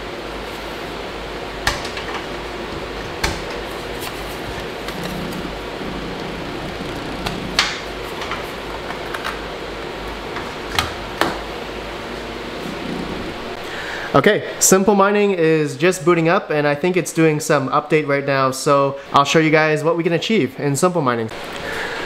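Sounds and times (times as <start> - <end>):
steady fan noise: 0.0 - 22.0.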